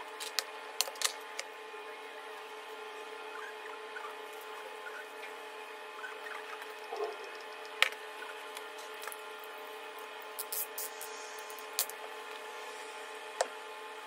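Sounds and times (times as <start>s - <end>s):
workshop hum: 0.0s - 14.0s.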